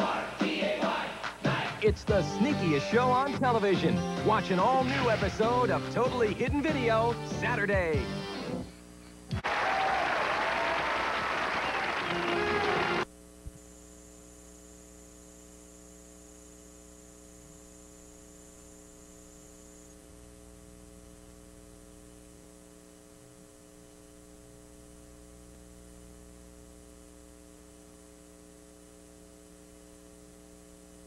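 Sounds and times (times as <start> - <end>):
mains hum: 0.0 - 31.0
tape hiss: 0.0 - 31.0
faint high whine: 2.1 - 31.0.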